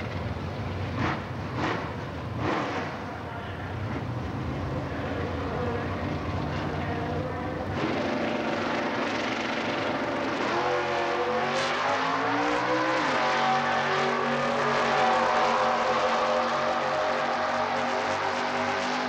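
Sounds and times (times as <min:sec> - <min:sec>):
drag racing car engines: 0:00.0 - 0:19.0.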